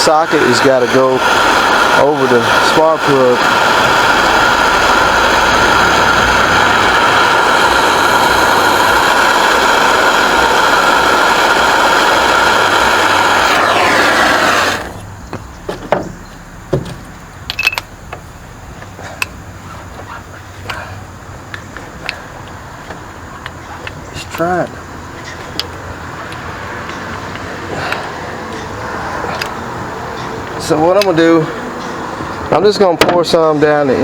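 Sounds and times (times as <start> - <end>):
heating tool hissing and whistling: 0.0 - 16.5, 18.8 - 34.0.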